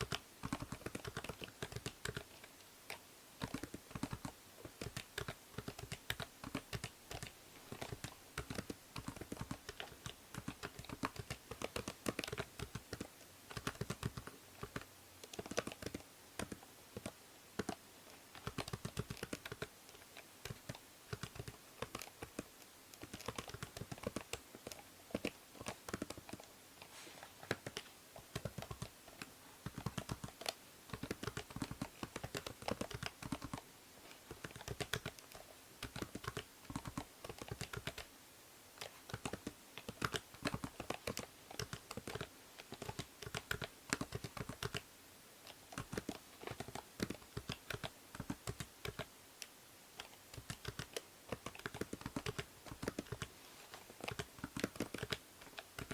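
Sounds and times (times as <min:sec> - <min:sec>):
keyboard typing clicks: 0:00.0 - 0:17.8, 0:18.4 - 0:26.5, 0:27.4 - 0:33.6, 0:34.3 - 0:38.1, 0:38.8 - 0:44.8, 0:45.4 - 0:53.3, 0:54.0 - 0:55.9
low microphone hiss: 0:00.0 - 0:55.9.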